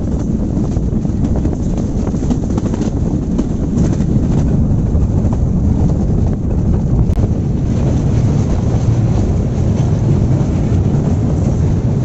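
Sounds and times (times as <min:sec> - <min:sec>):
train rumbling: 0:00.0 - 0:12.0
wind buffeting microphone: 0:00.0 - 0:12.0.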